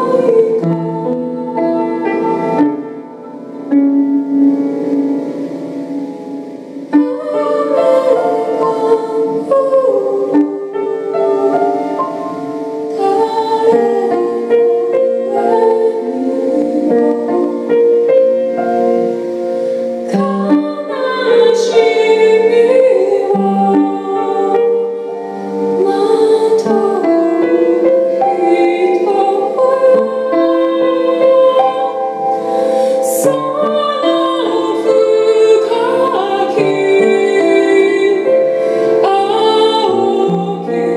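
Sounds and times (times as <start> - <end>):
woman singing: 0.0 - 4.1, 6.9 - 19.1, 20.0 - 40.9
piano accompaniment: 0.0 - 40.9.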